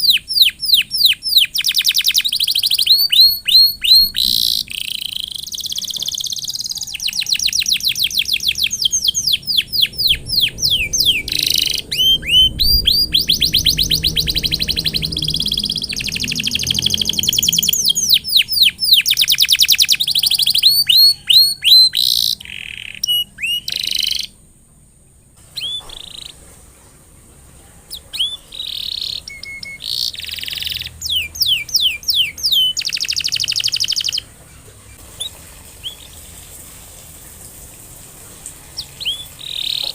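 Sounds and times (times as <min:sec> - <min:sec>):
canary singing trills: 0:00.0 - 0:24.5, 0:25.4 - 0:26.6, 0:27.8 - 0:36.5, 0:38.7 - 0:39.9.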